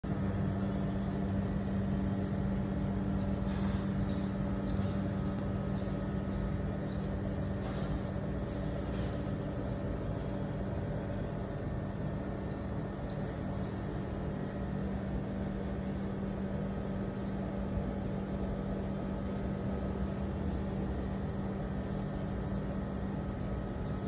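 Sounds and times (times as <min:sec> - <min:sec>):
insect chirping: 0:00.0 - 0:24.0
steady low hum: 0:00.0 - 0:24.0.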